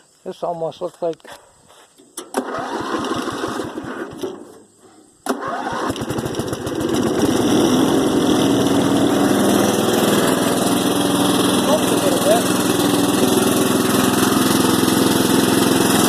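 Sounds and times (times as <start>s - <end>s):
riding lawn mower engine starting: 2.2s - 16.0s.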